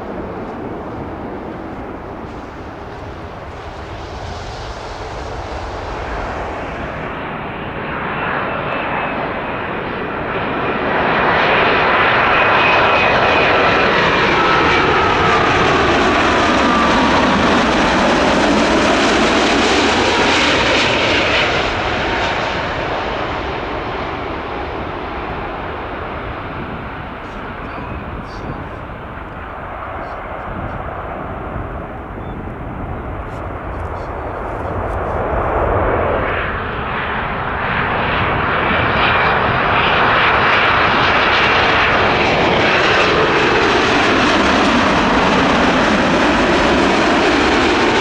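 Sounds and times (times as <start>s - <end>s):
jet engines passing: 0.0s - 48.0s.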